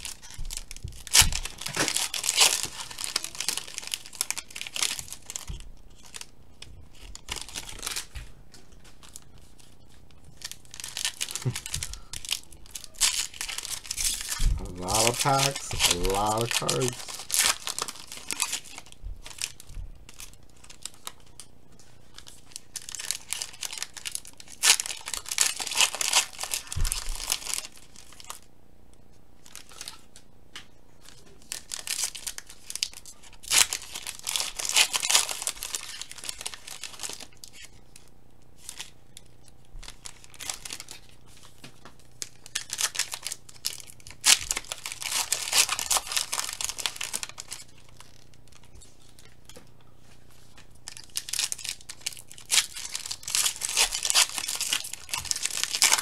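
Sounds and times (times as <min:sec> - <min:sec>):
foil wrappers tearing and crinkling: 0:00.0 - 0:28.5, 0:29.4 - 0:30.2, 0:31.0 - 0:49.6, 0:50.3 - 0:56.0.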